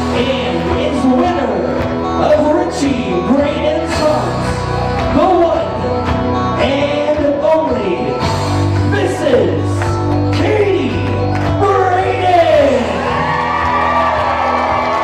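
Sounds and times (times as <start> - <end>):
song with sung vocals: 0.0 - 15.0
steady bass line: 0.0 - 15.0.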